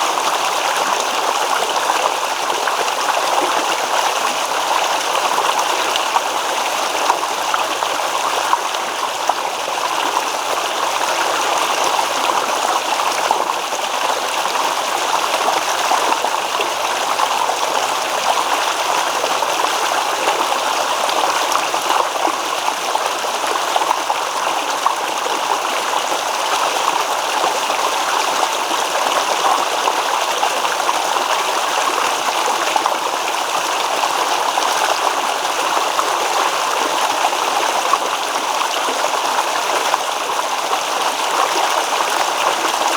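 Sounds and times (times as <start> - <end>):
stream babbling over stones: 0.0 - 42.9.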